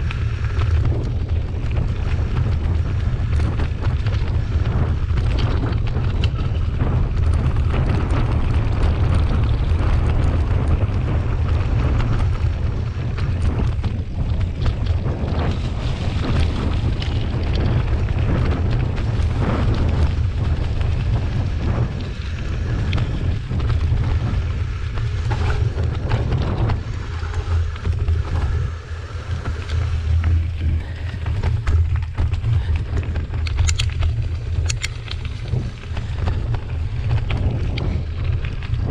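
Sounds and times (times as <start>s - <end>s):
bike knocks and rattles: 0.0s - 38.9s
wind buffeting microphone: 0.0s - 38.9s.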